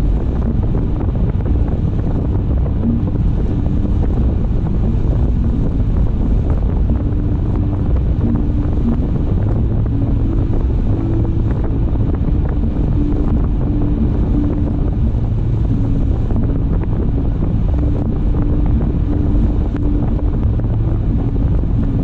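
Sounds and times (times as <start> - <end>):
car road and wind noise: 0.0 - 22.0
faint engine tones: 0.0 - 22.0.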